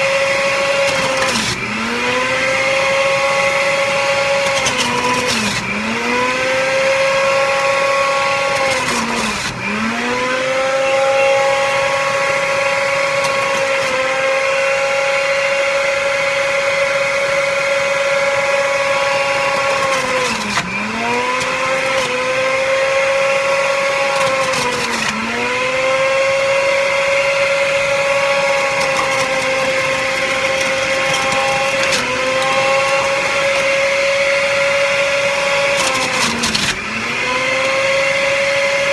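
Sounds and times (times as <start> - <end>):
juicer motor whining: 0.0 - 38.9.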